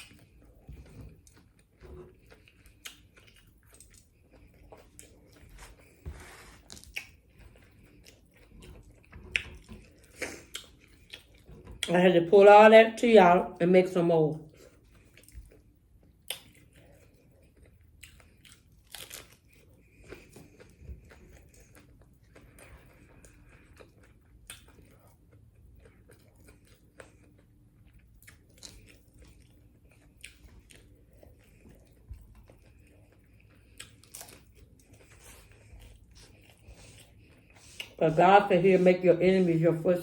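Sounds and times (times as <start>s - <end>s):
chewing and crunching tacos: 0.0s - 11.9s, 14.4s - 38.5s.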